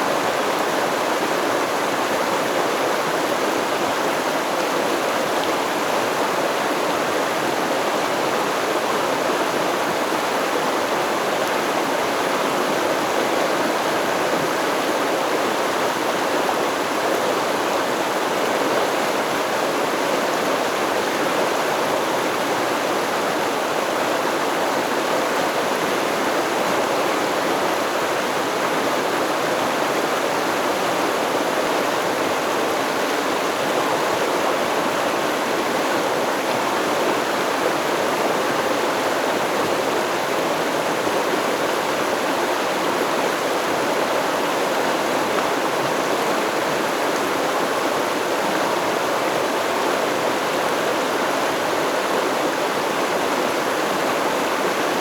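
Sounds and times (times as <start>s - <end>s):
river stream flowing: 0.0s - 55.0s.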